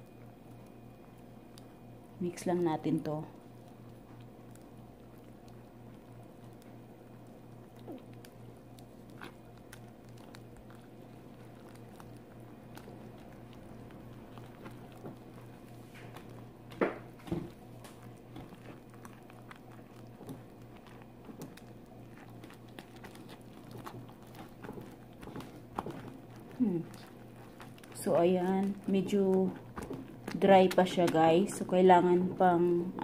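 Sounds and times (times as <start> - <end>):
low steady hum: 0.0 - 33.0
whisk stirring batter in glass bowl: 3.4 - 32.7.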